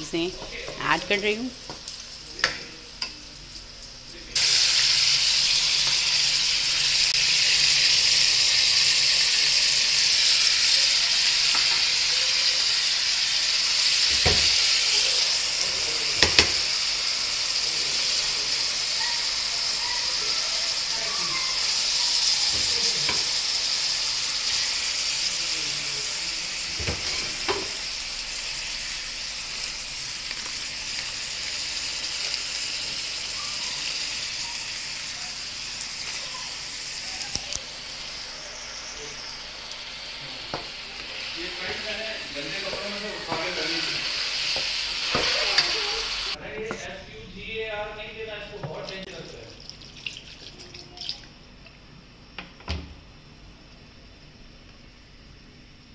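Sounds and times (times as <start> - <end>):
food sizzling in hot oil: 0.0 - 46.4, 48.7 - 51.4.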